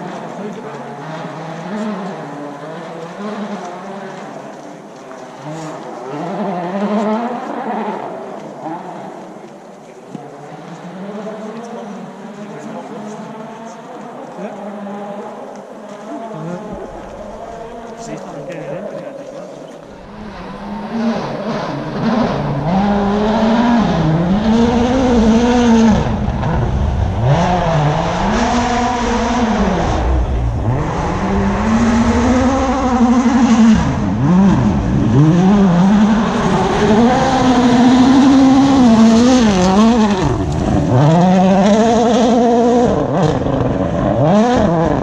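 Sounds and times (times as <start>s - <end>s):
rally car engine revving: 0.0s - 45.0s.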